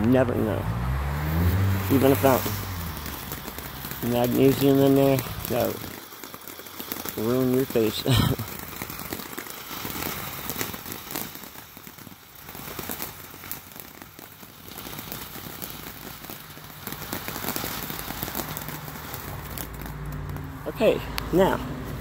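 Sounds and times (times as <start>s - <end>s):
fountain fireworks hissing and crackling: 0.0s - 22.0s.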